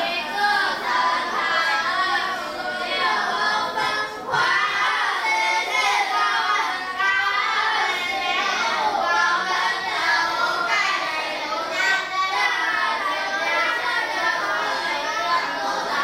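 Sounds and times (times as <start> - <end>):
children reading aloud in unison: 0.0 - 16.0.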